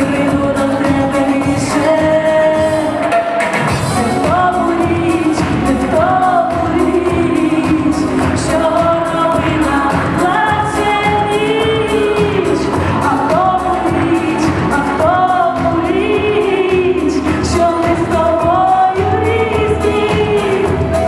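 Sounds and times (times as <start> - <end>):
pop song beat: 0.0 - 21.0
woman singing: 0.0 - 21.0.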